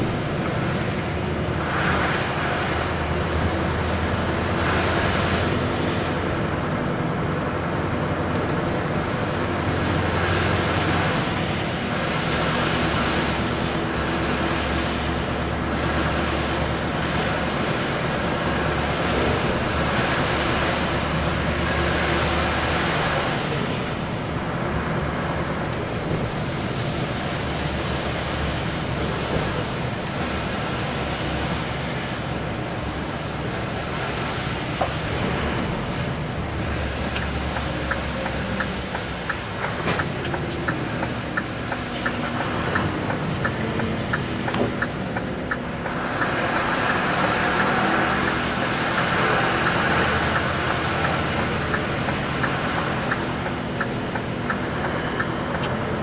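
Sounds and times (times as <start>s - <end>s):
engine hum: 0.0s - 56.0s
tyres hissing on wet road: 0.0s - 56.0s.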